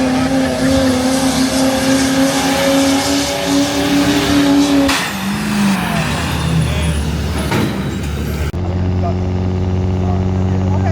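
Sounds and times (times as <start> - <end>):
diesel truck engine at high revs: 0.0 - 10.9.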